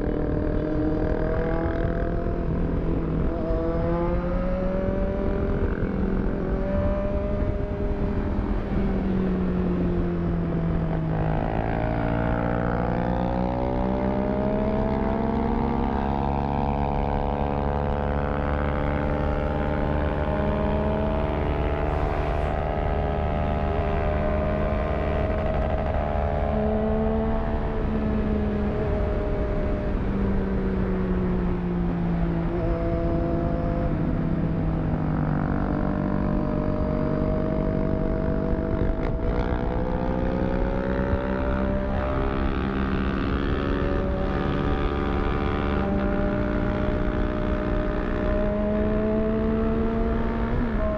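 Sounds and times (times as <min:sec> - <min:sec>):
motorcycle engine cruising: 0:00.0 - 0:50.9
wind rumble on microphone: 0:00.0 - 0:50.9.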